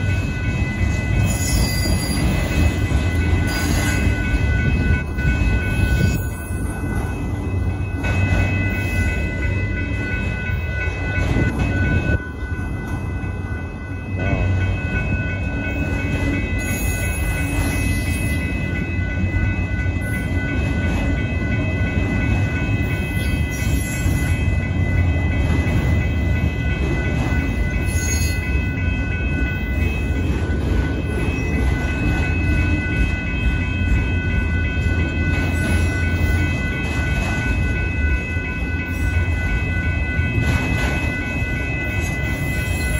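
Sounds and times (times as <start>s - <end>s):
crossing bell ringing: 0.0s - 42.9s
freight train wheels rumbling: 0.0s - 42.9s.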